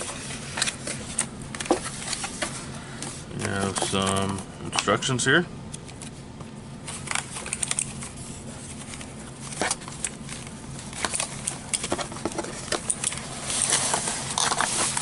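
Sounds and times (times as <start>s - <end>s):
paper and plastic packaging rustling: 0.0s - 5.0s, 6.9s - 15.0s.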